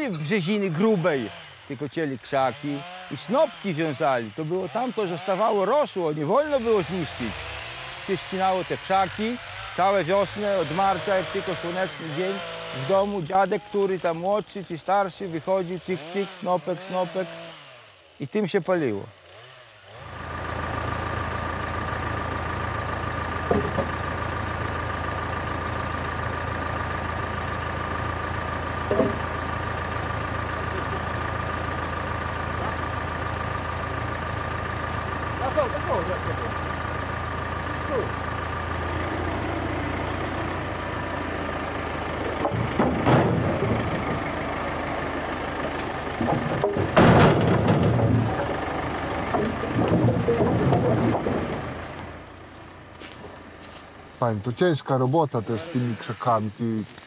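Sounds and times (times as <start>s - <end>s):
engine running with high whine: 0.0s - 18.2s, 18.9s - 57.0s.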